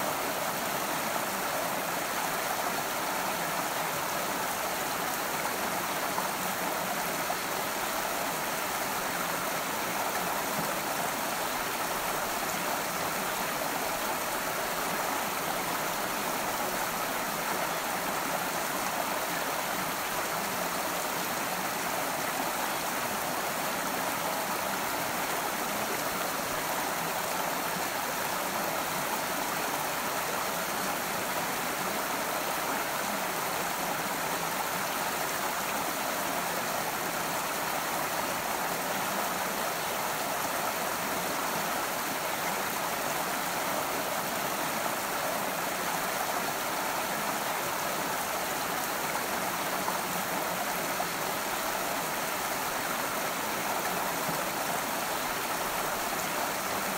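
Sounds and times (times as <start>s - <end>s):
stream of water running: 0.0s - 56.9s.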